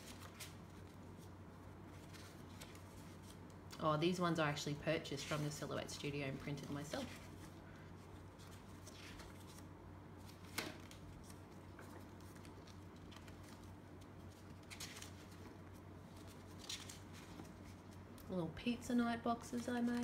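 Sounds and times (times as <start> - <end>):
paper pages rustling: 0.0 - 3.8, 5.0 - 18.3
faint low hum: 0.0 - 20.0.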